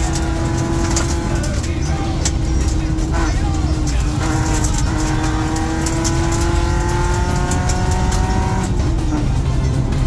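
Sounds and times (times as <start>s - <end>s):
gravel ticks: 0.0s - 9.7s
car engine accelerating: 0.0s - 10.0s
tyres rumbling on gravel: 0.0s - 10.0s.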